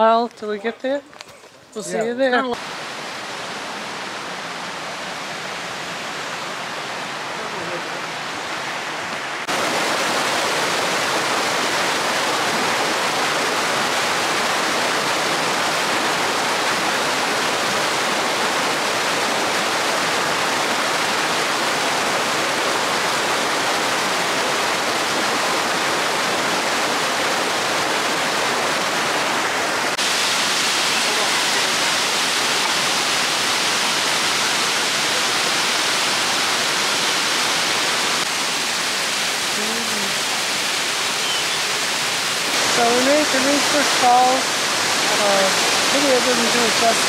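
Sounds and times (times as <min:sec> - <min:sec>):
waterfall rushing: 0:02.0 - 0:47.0.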